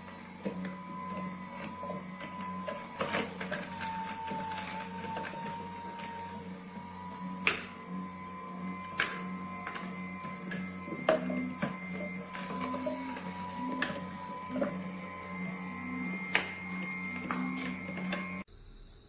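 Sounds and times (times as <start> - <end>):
juicer motor whining: 0.0 - 18.5.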